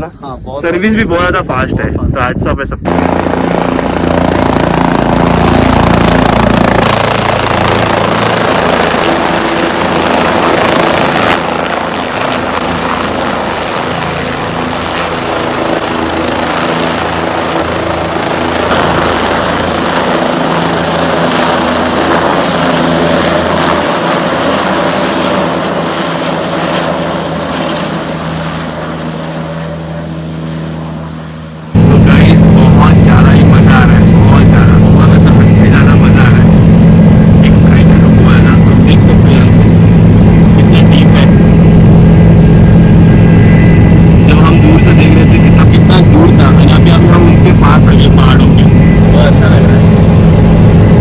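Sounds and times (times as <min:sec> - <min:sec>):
helicopter engine and rotor: 0:00.7 - 0:51.0.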